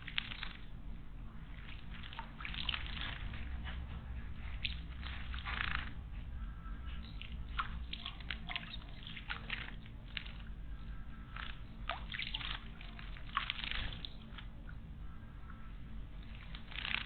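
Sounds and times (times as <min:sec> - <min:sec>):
water splashing and dripping: 0:00.0 - 0:06.1, 0:06.9 - 0:14.9, 0:16.1 - 0:17.0.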